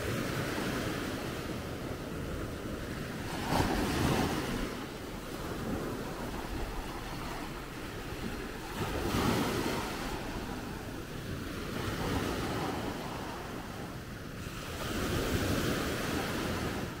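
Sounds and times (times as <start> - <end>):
waves breaking on sandy shore: 0.0 - 17.0.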